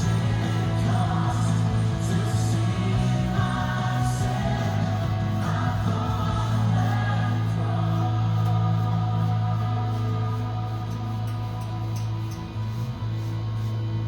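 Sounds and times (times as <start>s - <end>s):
background music with choral singing: 0.0s - 14.0s
steady low drone: 0.0s - 14.0s.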